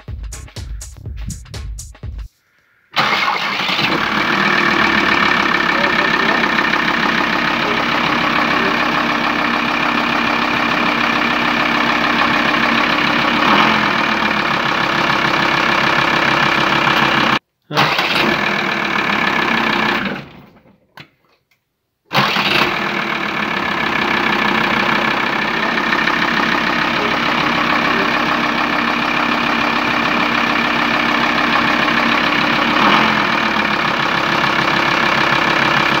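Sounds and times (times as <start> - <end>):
van engine idling: 3.0 - 20.6, 22.1 - 36.0.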